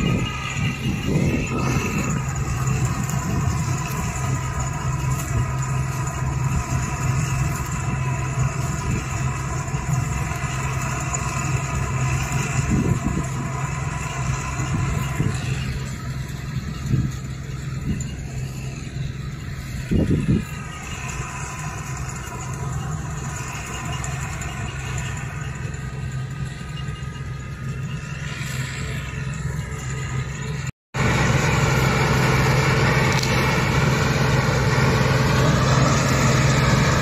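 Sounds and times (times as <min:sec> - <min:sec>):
combine harvester engine drone: 0:00.0 - 0:37.0
threshing machinery whine: 0:00.0 - 0:37.0.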